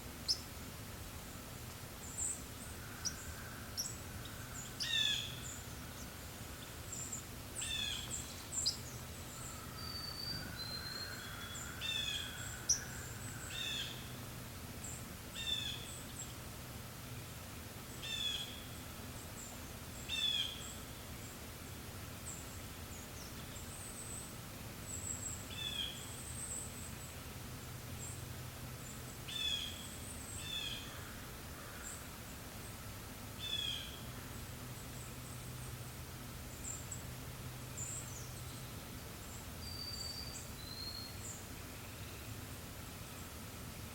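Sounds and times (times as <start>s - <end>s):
faint low background hum: 0.0s - 43.9s.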